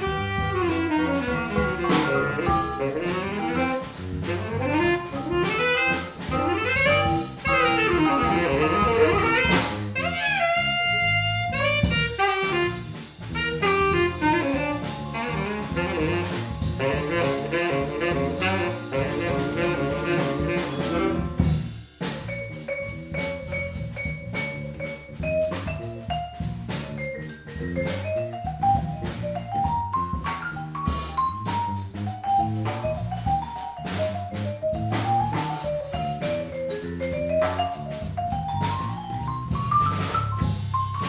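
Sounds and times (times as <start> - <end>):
drum kit beat: 0.0 - 41.0
electric bass: 0.0 - 41.0
vibraphone soloing: 0.1 - 4.0, 4.6 - 9.6, 13.4 - 41.0.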